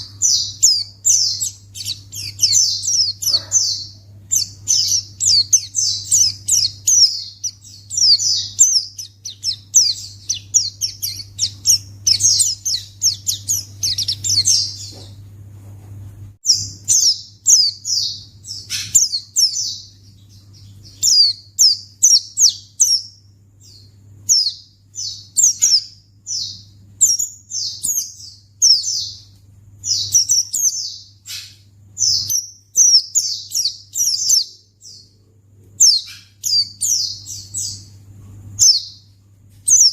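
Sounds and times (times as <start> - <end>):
bird singing high chirps and trills: 0.0 - 15.2, 16.4 - 39.9
faint low hum: 0.0 - 39.9.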